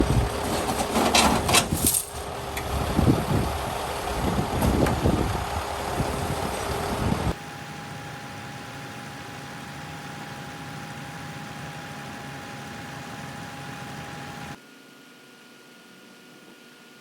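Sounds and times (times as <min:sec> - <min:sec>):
diesel truck engine idling: 0:00.0 - 0:14.5.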